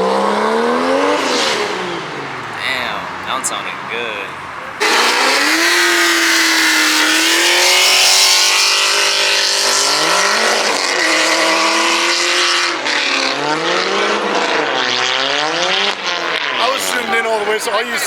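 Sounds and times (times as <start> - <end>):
car engine at high revs: 0.0 - 18.0
tire squealing: 0.0 - 18.0.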